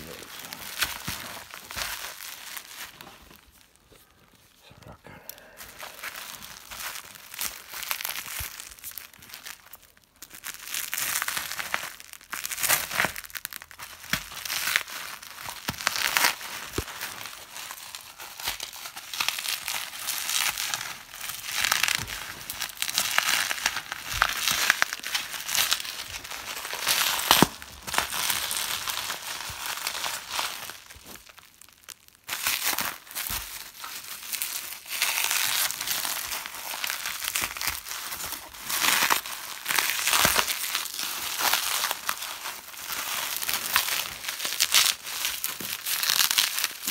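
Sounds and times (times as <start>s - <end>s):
plastic packaging crinkling: 0.0s - 46.9s.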